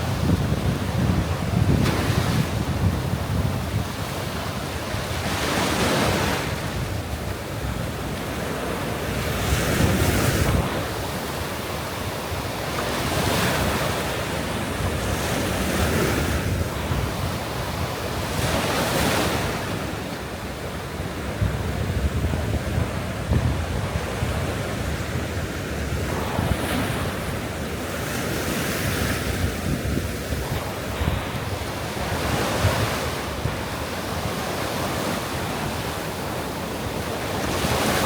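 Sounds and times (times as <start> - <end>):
sea waves breaking on beach: 0.0 - 38.0
wind rumbling on microphone: 0.0 - 38.0.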